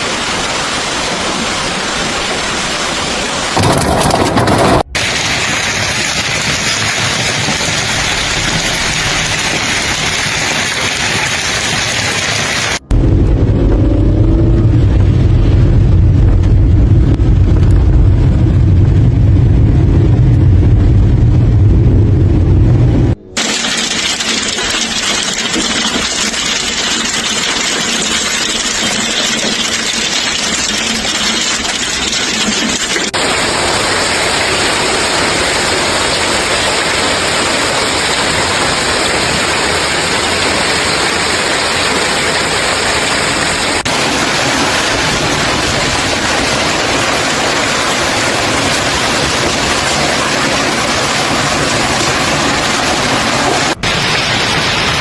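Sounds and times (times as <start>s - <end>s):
heavy rain rushing: 0.0s - 55.0s.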